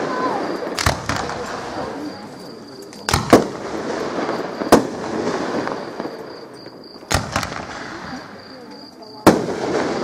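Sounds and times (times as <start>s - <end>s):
fireworks bangs: 0.0s - 10.0s
fireworks display noise: 0.0s - 10.0s.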